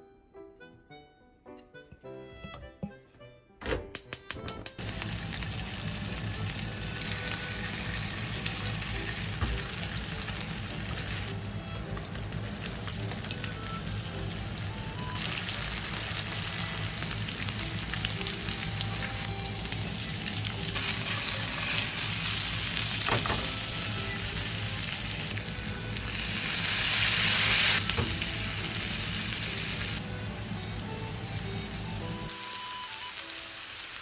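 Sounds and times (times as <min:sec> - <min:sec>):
potatoes sizzling in a frying pan: 0:04.8 - 0:34.0.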